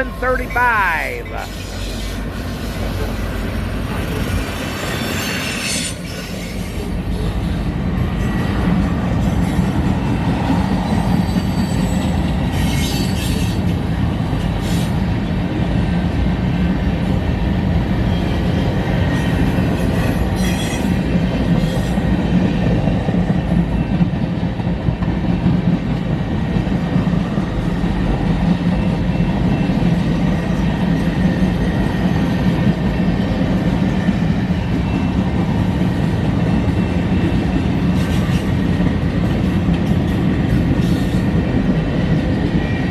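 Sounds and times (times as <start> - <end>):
train wheels rumbling on rail: 1.3 - 42.9.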